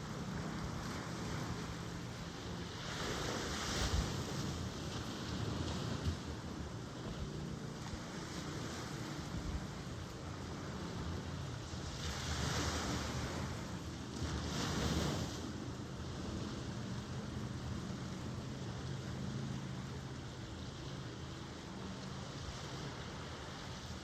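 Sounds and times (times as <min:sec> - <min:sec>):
ocean waves washing on shore: 0:00.0 - 0:24.0
waves breaking: 0:00.0 - 0:24.0.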